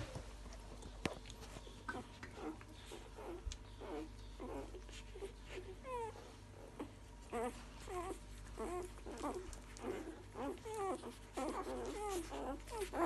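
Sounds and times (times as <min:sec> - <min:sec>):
puppies squeaking and whimpering: 0:01.4 - 0:13.0.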